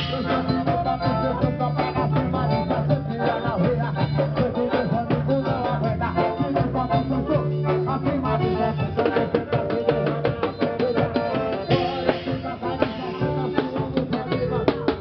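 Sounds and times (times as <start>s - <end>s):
instrumental music over car speakers: 0.0s - 15.0s.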